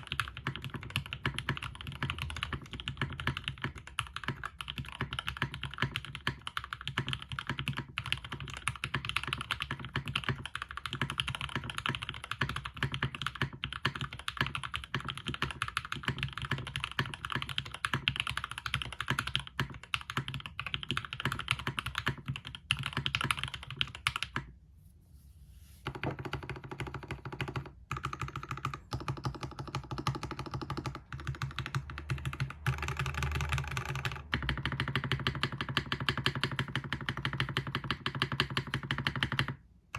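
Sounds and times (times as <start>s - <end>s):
mechanical keyboard typing: 0.0s - 24.5s, 25.9s - 39.6s.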